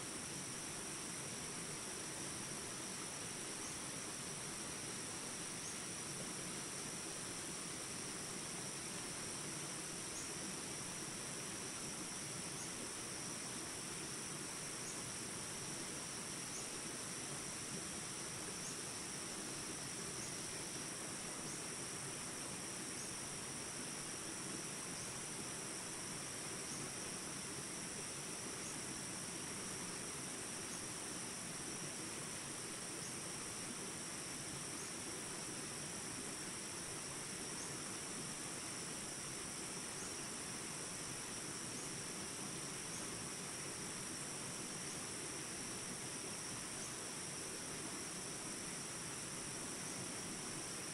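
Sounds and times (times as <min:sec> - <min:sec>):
high-pitched insect chorus: 0:00.0 - 0:50.9
stream water flowing: 0:00.1 - 0:50.9.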